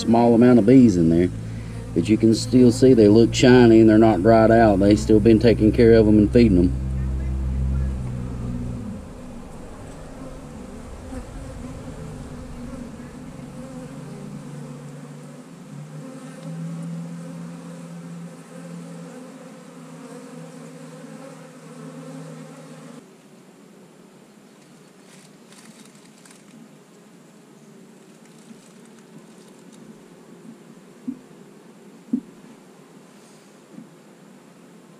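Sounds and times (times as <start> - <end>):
honey bees buzzing: 0.0 - 34.9.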